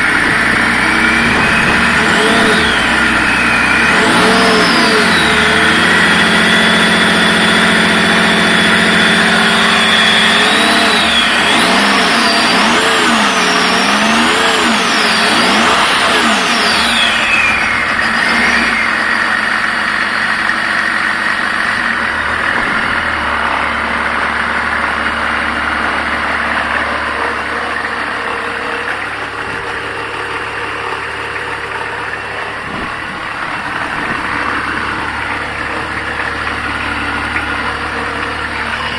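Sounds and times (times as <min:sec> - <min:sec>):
diesel engine revving and idling: 0:00.0 - 0:38.9.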